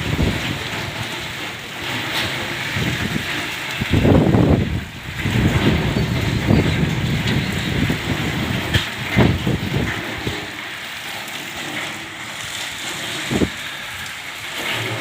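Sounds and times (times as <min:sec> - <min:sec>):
wind buffeting microphone: 0:00.0 - 0:01.4, 0:02.5 - 0:10.6, 0:12.3 - 0:15.0.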